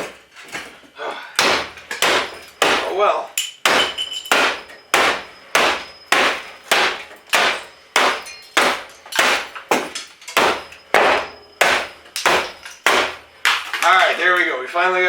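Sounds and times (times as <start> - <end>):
hammer striking metal case: 1.4 - 13.6.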